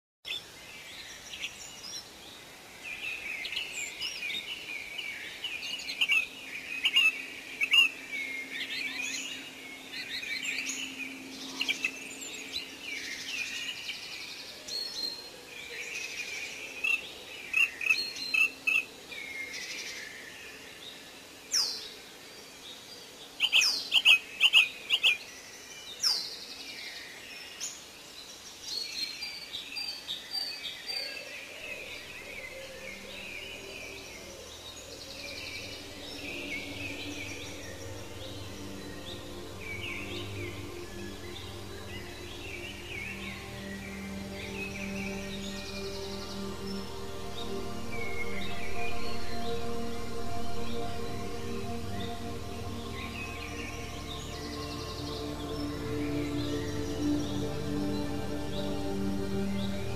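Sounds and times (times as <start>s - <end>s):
songbirds chirping and trilling: 0.2s - 59.9s.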